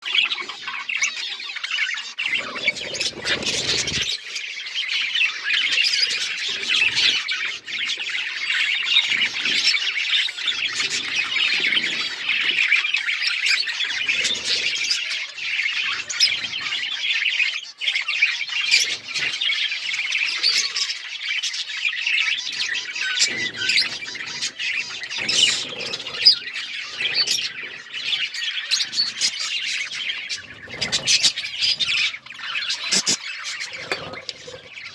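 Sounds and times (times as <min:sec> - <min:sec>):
budgerigars chattering and chirping: 0:00.0 - 0:34.9.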